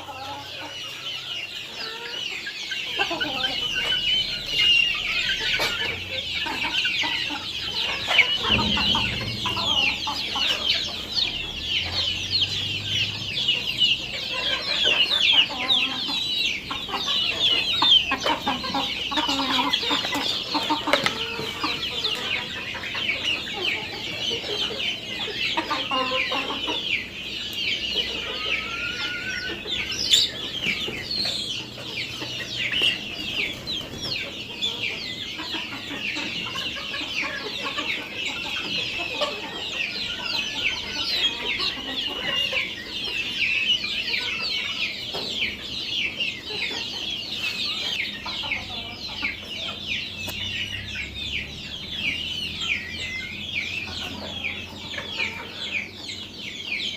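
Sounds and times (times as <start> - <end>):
chickens calling: 0.0 - 56.9.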